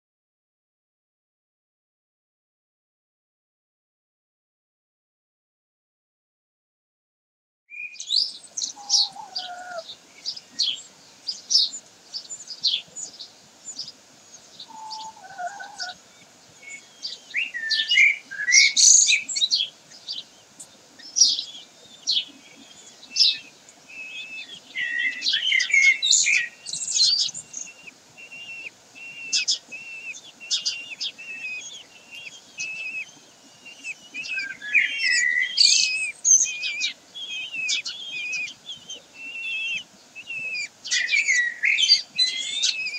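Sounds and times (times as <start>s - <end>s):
birds chirping: 7.7s - 42.9s.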